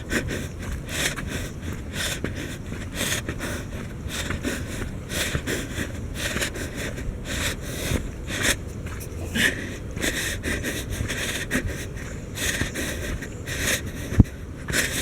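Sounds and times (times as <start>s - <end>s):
footsteps scuffing on trail: 0.0s - 6.5s, 7.3s - 14.9s
breathing: 0.0s - 15.0s.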